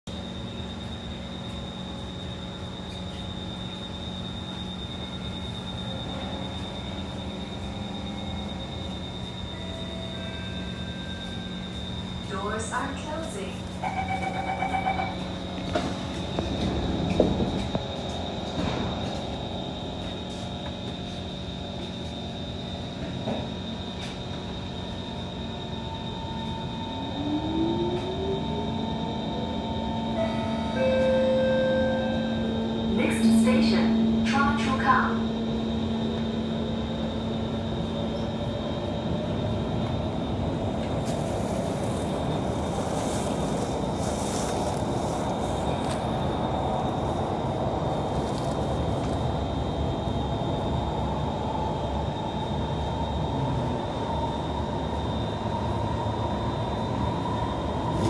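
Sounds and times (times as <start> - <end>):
high-pitched whine: 0.1 - 58.0.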